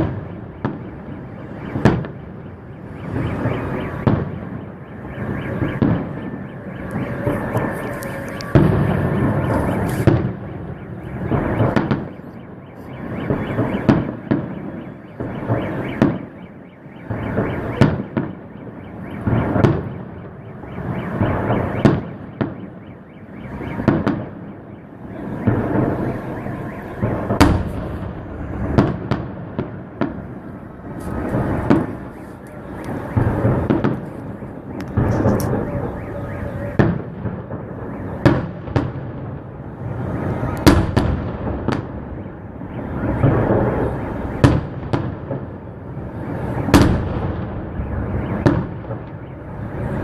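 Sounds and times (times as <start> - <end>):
fireworks crackling: 0.0 - 16.4, 23.5 - 50.0
fireworks booming: 0.0 - 50.0.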